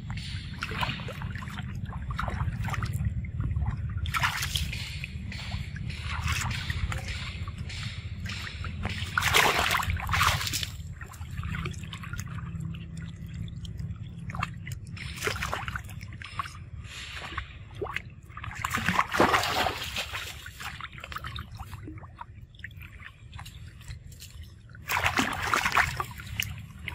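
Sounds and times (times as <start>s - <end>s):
steady low rumble: 0.0s - 26.9s
water splashing and sloshing: 0.0s - 26.9s.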